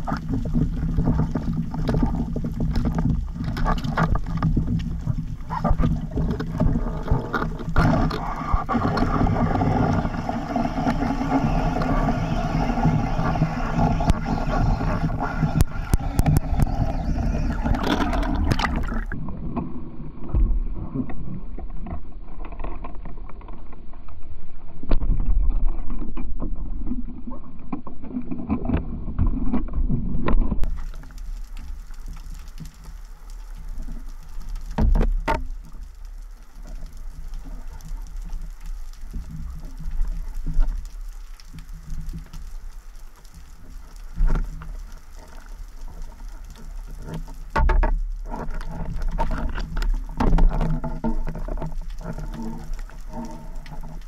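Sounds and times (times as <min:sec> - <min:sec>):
underwater rumble of moving water: 0:00.0 - 0:54.0.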